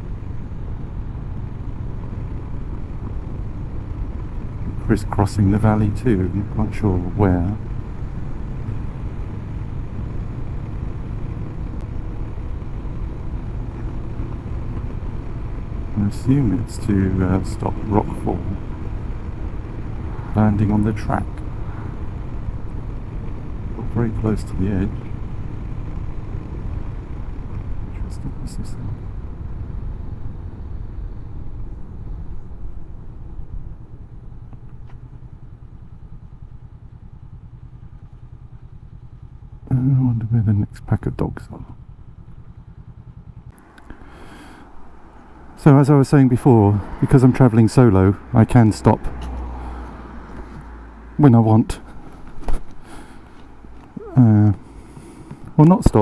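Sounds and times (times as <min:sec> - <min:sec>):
motorcycle engine running: 0:00.0 - 0:56.0
rush of riding: 0:00.0 - 0:56.0.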